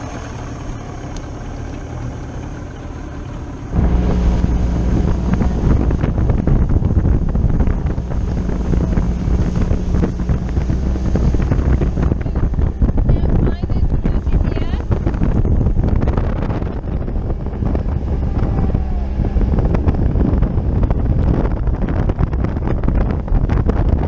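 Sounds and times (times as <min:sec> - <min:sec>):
outboard engine drone: 0:00.0 - 0:24.0
water rushing past hull: 0:00.0 - 0:24.0
wind buffeting microphone: 0:03.7 - 0:24.0.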